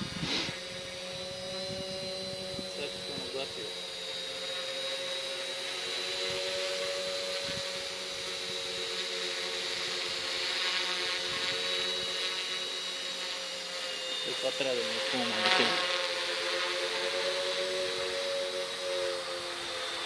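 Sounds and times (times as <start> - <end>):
quadcopter motors humming: 0.0 - 20.0.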